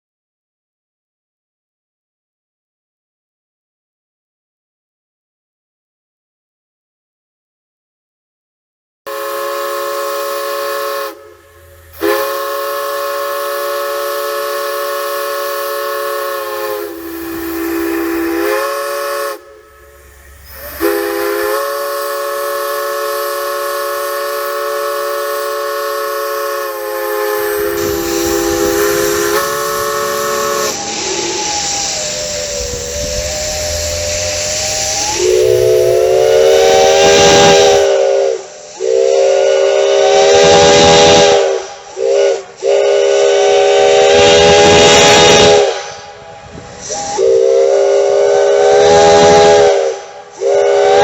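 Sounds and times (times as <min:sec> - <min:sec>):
multi-chime steam whistle: 0:09.1 - 0:51.0
steam hissing: 0:09.1 - 0:51.0.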